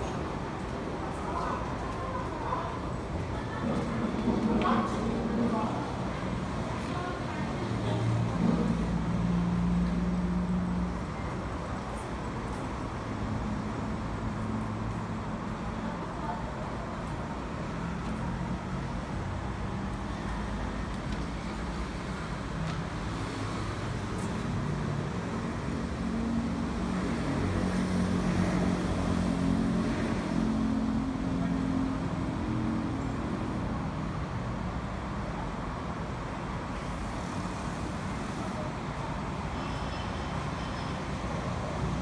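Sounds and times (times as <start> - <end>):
road traffic: 0.0 - 42.0.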